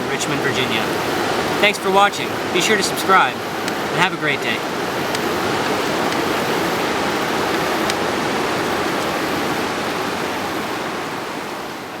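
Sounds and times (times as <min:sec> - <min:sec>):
river water over rapids: 0:00.0 - 0:12.0.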